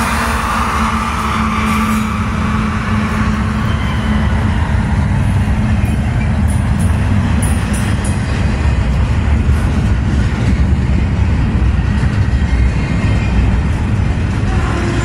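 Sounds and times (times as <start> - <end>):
diesel locomotive engine drone: 0.0 - 15.0
rail cars rumbling over rails: 0.0 - 15.0.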